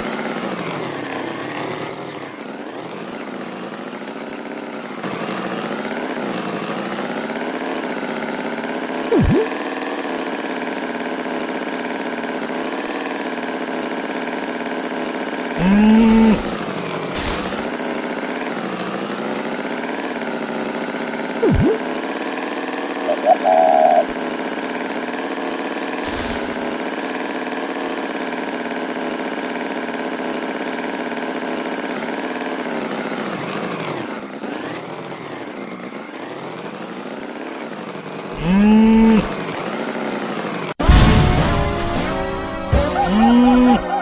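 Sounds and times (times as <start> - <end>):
engine running: 0.0 - 44.0.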